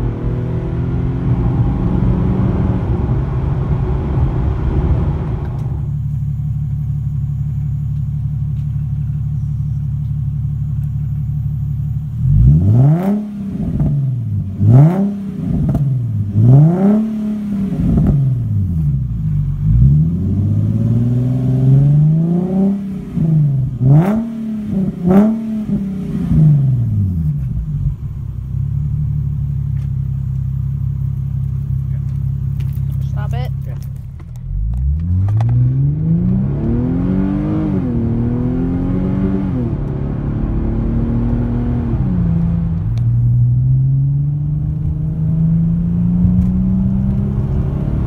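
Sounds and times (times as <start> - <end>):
car engine idling and revving: 0.0 - 48.0.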